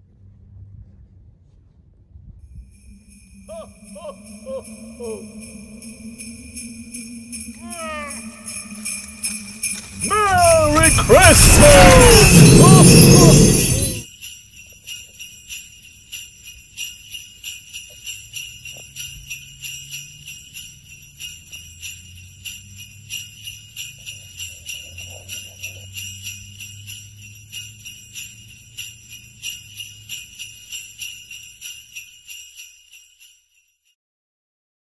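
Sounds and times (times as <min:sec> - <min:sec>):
sleigh bells jingling: 0:02.6 - 0:33.9.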